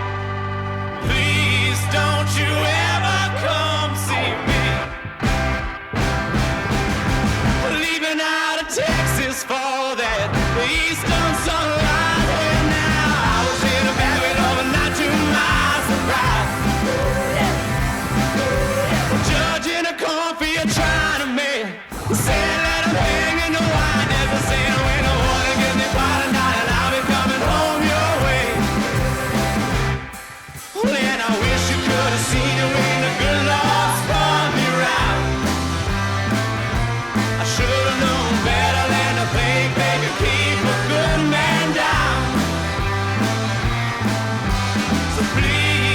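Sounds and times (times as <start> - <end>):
rock music with singing: 0.0 - 45.9.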